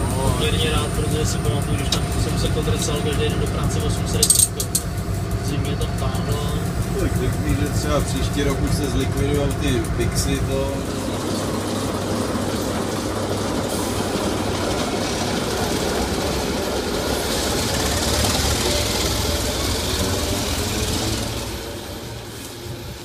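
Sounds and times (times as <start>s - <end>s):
diesel locomotive engine hum: 0.0s - 23.0s
wheel and rail noise: 0.0s - 23.0s.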